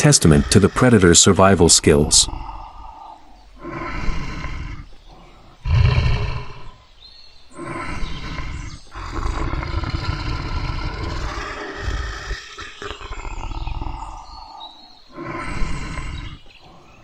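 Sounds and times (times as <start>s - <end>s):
tiger roaring: 0.0s - 17.0s.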